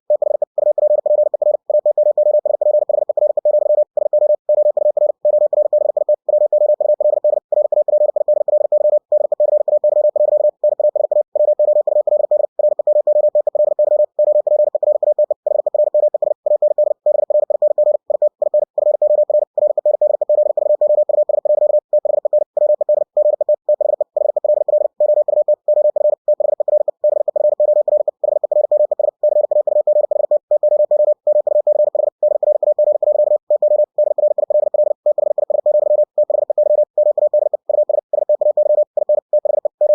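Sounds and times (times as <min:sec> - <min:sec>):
morse code tone: 0:00.1 - 0:39.9.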